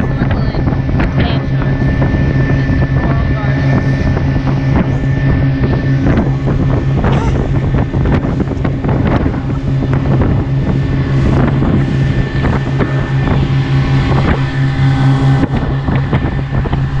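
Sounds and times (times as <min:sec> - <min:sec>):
motorboat engine drone: 0:00.0 - 0:17.0
water rushing and splashing: 0:00.0 - 0:17.0.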